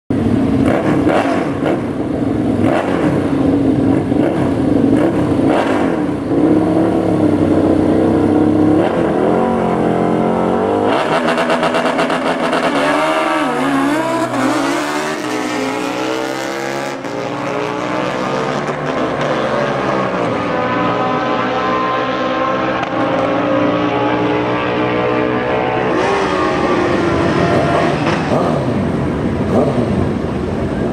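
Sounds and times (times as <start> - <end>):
motorcycle engines revving: 0.1 - 30.9.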